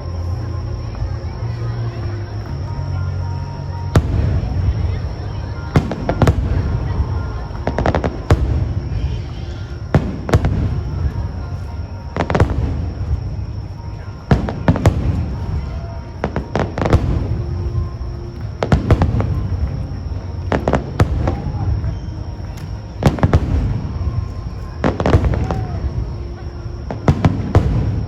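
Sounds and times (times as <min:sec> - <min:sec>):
fireworks bursting: 0:00.0 - 0:28.0
low rumble of echoing booms: 0:00.0 - 0:28.0.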